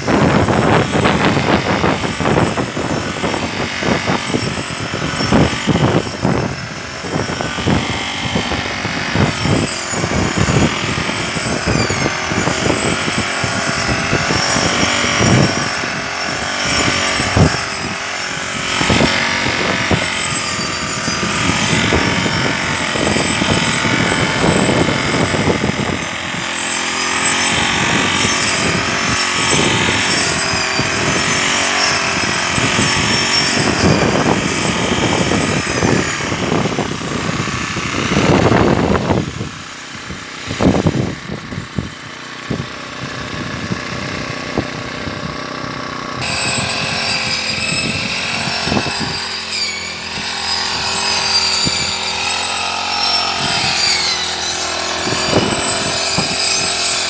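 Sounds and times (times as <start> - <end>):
brush cutter engine under load: 0.0 - 57.0.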